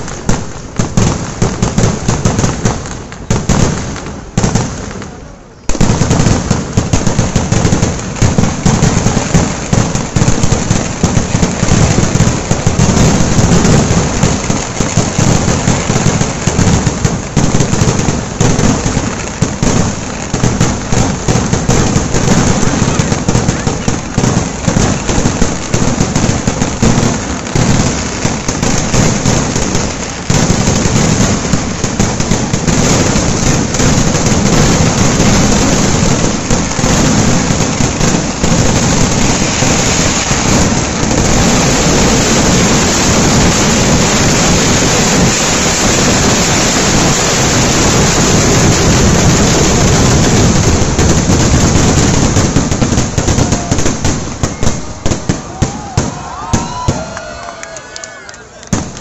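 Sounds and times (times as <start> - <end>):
heavy firework booms: 0.0 - 57.1, 58.7 - 59.0
fireworks bangs and crackling: 0.0 - 59.0.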